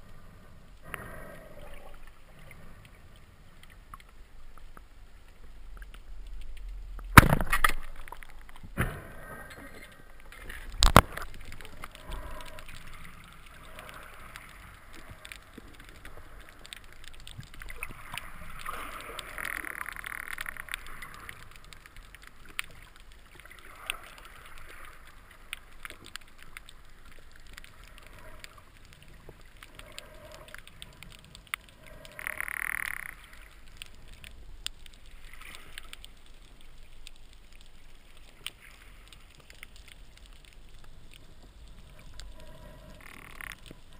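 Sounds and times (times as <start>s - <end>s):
muffled water rush and gurgle: 0.0s - 43.9s.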